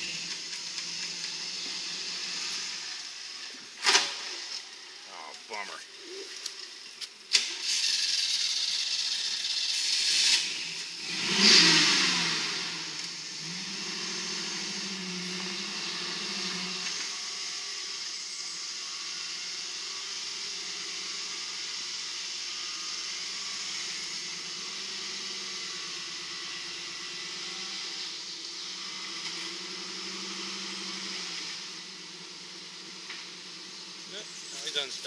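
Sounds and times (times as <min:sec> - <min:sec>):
vehicle engine revving: 0:00.0 - 0:04.3, 0:07.8 - 0:35.0.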